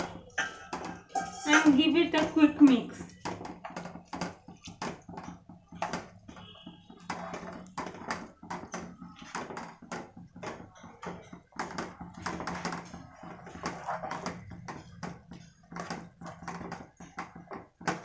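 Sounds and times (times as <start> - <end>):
spatula scraping and knocking pot: 0.0 - 18.0.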